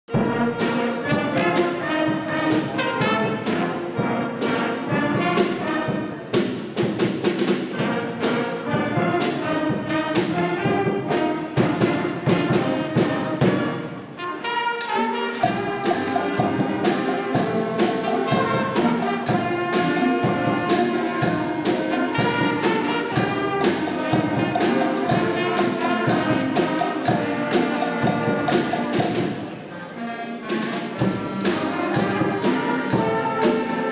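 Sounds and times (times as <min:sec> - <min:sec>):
steady drumbeat: 0:00.1 - 0:14.1, 0:14.9 - 0:29.6, 0:30.5 - 0:33.9
concert band brass: 0:00.1 - 0:33.9.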